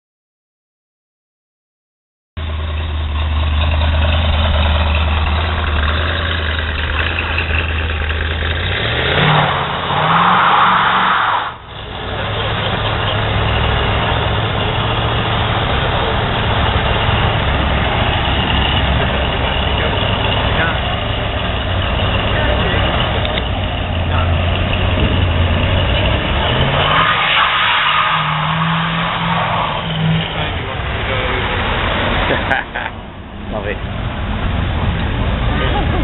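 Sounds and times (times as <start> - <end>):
car engine idling and revving: 2.4 - 36.0.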